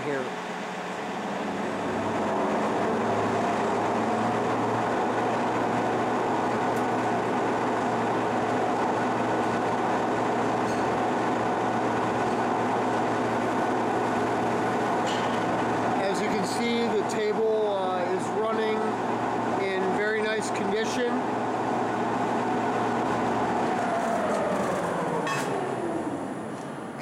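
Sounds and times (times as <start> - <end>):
lathe machinery hum: 0.0 - 27.0.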